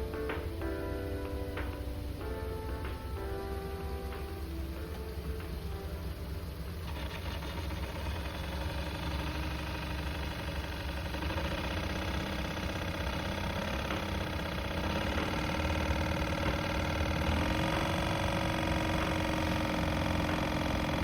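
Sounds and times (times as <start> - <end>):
blower motor whine: 0.0 - 21.0
engine idling: 0.0 - 21.0.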